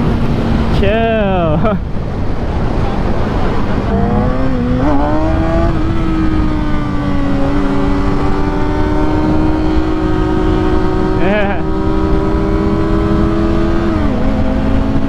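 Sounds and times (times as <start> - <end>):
motorcycle engine accelerating: 0.0 - 15.0
wind rush on microphone: 0.0 - 15.0.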